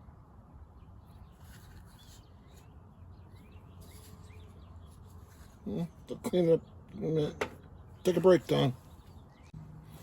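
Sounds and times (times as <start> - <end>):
faint bird chirps: 0.7 - 10.0.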